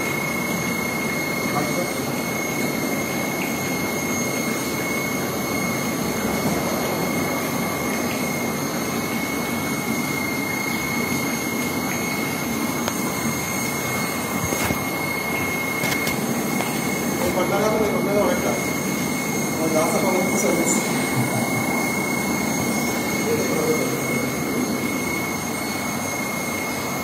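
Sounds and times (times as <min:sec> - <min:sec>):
aquarium air pumps bubbling: 0:00.0 - 0:27.0.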